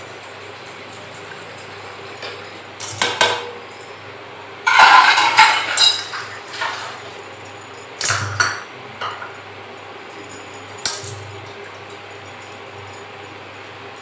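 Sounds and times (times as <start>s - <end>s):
steady low hum: 0.0s - 14.0s
steel kitchenware clinking: 1.0s - 4.0s, 4.6s - 9.5s, 10.2s - 14.0s.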